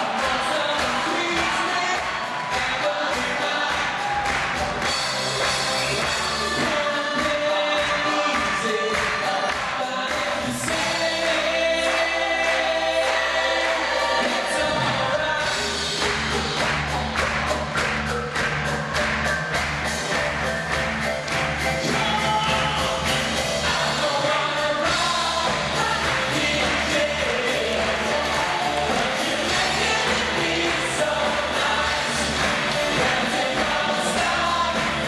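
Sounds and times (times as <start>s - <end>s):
gospel choir singing: 0.0s - 16.0s, 21.8s - 35.0s
band playing: 0.0s - 35.0s
steady drum beat: 0.0s - 35.0s.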